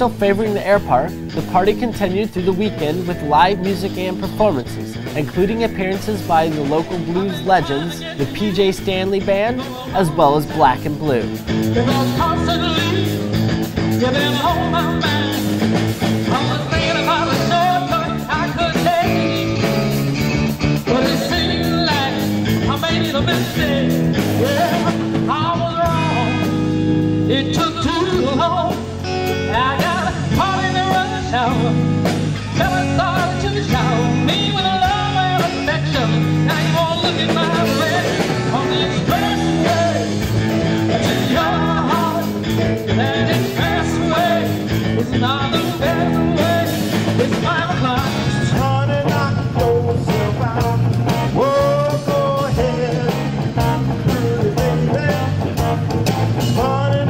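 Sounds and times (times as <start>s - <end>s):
live blues-rock band playing: 0.0s - 57.0s.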